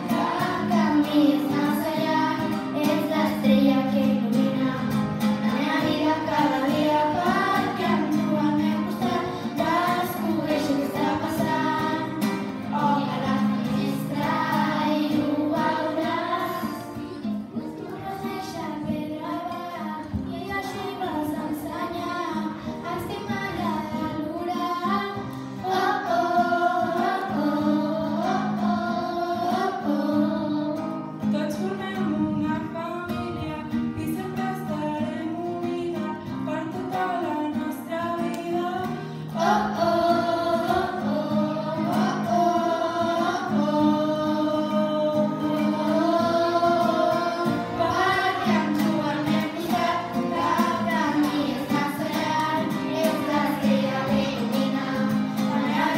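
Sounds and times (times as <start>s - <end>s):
girls singing together: 0.0s - 55.9s.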